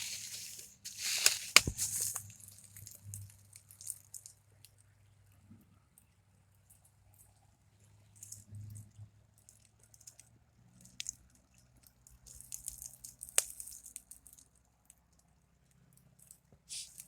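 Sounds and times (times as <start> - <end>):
faint rustling and crackling: 0.0 - 17.0.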